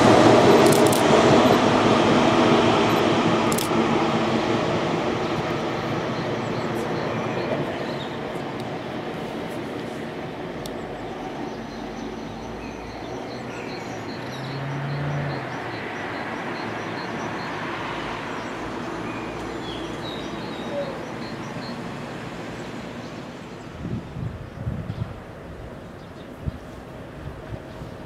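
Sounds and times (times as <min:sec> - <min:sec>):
locomotive rail running noise: 0:00.0 - 0:28.0.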